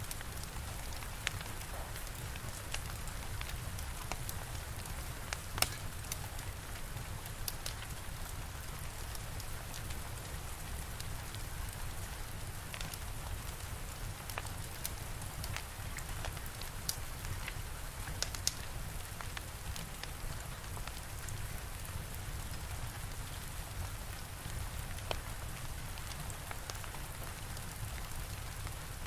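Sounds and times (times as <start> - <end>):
steady rain: 0.0 - 29.0
wood fire crackling and popping: 0.1 - 29.0.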